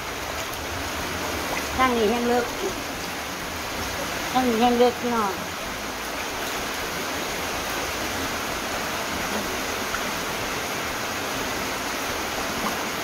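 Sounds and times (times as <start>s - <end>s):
heavy rain pouring: 0.0s - 13.0s
water splashing on tiled floor: 0.0s - 13.0s.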